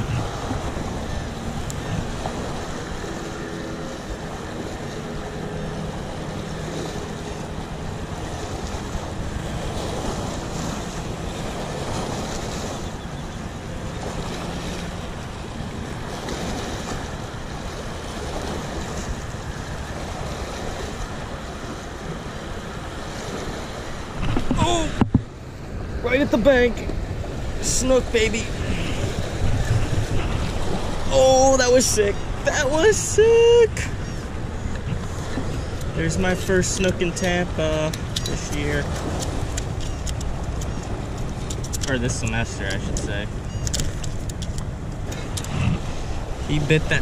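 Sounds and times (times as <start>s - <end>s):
small waves on shore: 0.0s - 47.0s
wind buffeting microphone: 0.0s - 47.0s.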